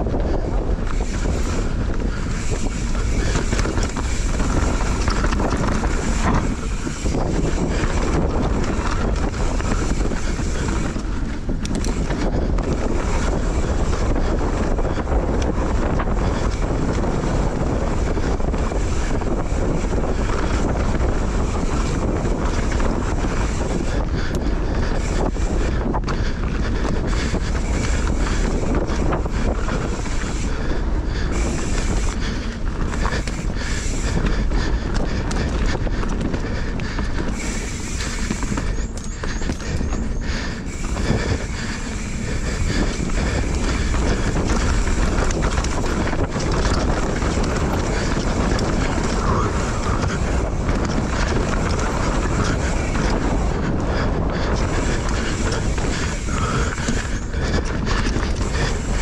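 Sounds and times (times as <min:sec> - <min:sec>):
bike rattling and knocking: 0:00.0 - 0:59.0
bike tyres on dirt trail: 0:00.0 - 0:59.0
wind rumbling on microphone: 0:00.0 - 0:59.0.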